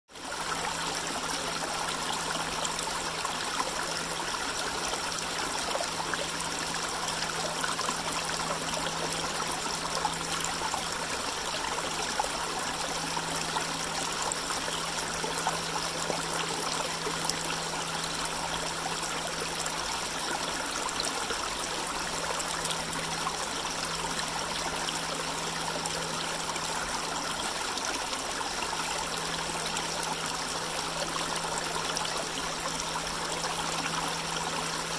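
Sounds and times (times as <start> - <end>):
creek trickling over rocks: 0.1 - 34.9.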